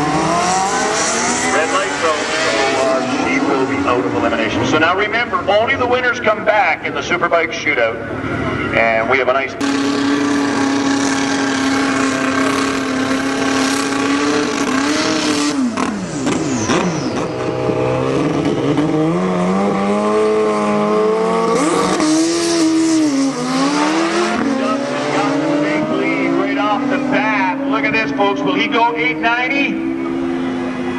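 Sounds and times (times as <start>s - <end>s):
sport bike engines revving: 0.0s - 30.9s.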